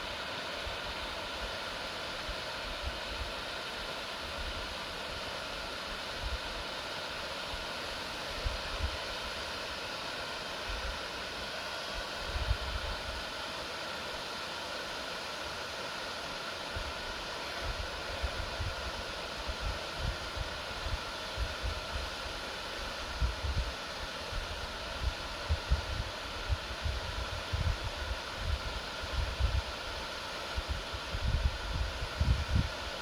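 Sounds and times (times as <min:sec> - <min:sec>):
rushing forest background noise: 0:00.0 - 0:33.0.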